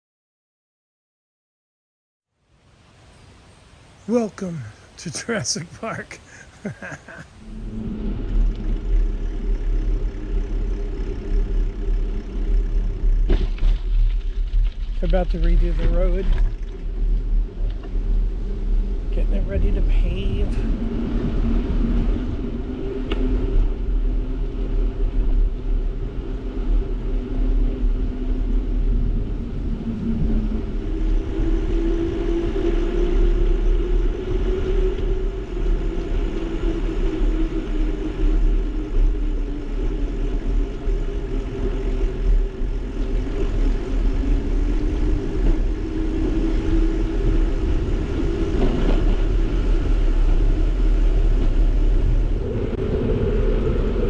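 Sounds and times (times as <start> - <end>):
bicycle tyre and road noise: 2.3 - 54.0
faint hum rising and falling: 2.7 - 54.0
wind rumbling on microphone: 5.8 - 54.0.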